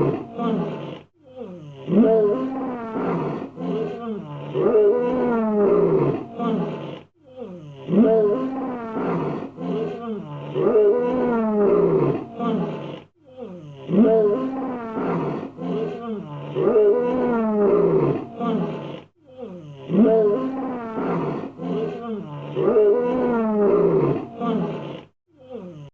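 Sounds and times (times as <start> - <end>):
lion roaring and grunting: 0.0 - 1.1, 1.7 - 7.1, 7.8 - 13.1, 13.8 - 19.1, 19.8 - 25.1.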